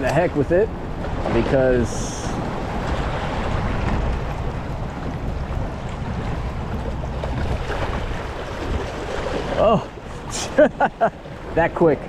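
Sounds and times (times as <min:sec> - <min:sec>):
waves lapping: 0:00.0 - 0:12.0.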